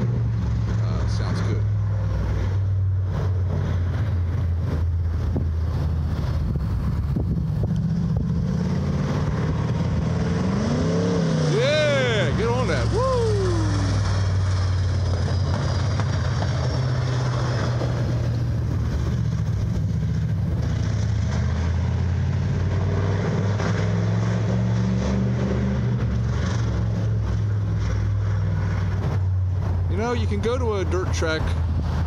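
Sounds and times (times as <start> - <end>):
race car engine droning: 0.0 - 32.0.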